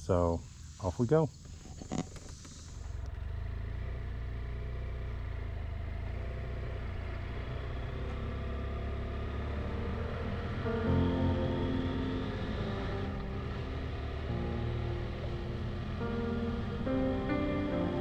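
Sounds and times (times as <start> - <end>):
motorcycle engine pulling away: 1.8 - 18.0.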